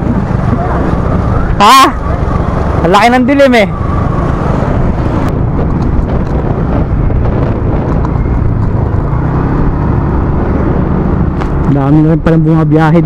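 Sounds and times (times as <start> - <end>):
motorcycle engine running: 0.0 - 12.9
road rumble: 0.0 - 13.0
wind buffeting: 0.0 - 13.0.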